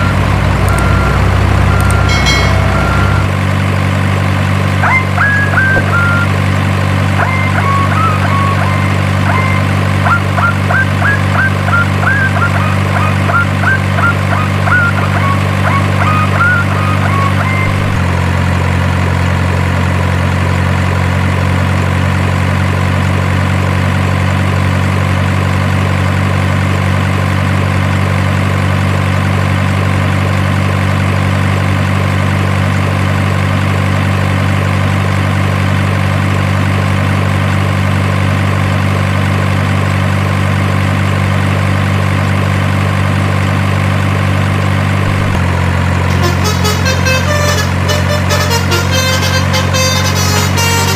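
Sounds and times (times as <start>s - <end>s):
truck engine idle hum: 0.0s - 50.9s.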